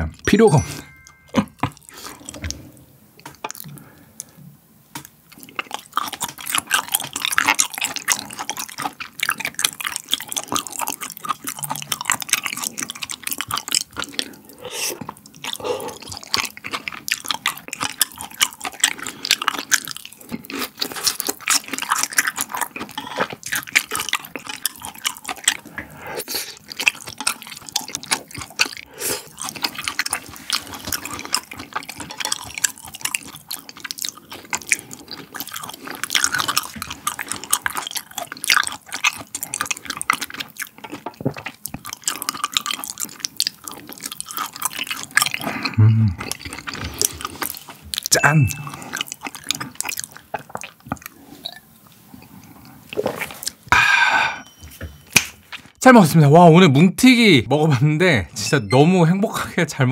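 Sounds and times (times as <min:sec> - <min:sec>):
wet chewing: 0:01.0 - 0:04.4, 0:05.0 - 0:54.5.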